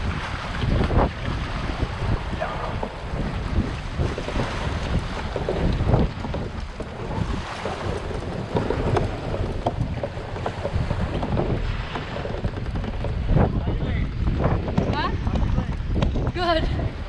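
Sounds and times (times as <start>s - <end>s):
water slapping against kayak hull: 0.0s - 16.8s
wind buffeting microphone: 0.0s - 17.0s.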